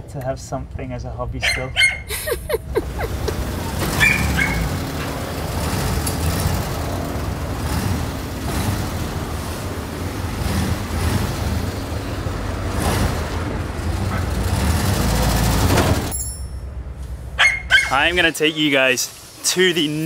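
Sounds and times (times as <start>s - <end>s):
low traffic rumble: 0.0s - 20.0s
cars passing: 1.4s - 20.0s.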